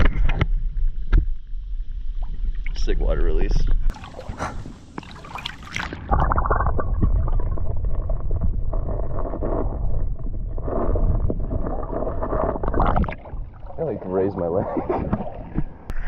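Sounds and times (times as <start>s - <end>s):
muffled creek water underwater: 0.0s - 16.0s.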